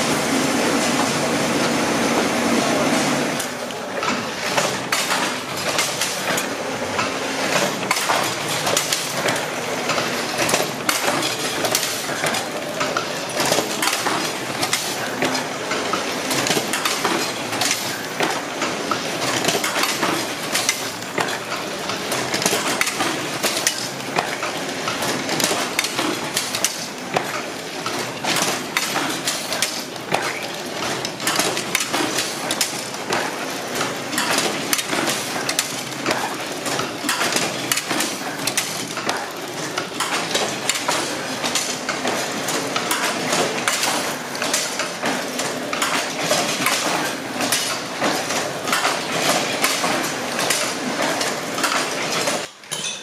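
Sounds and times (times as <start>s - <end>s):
machine clattering metal clicks: 3.4s - 53.0s.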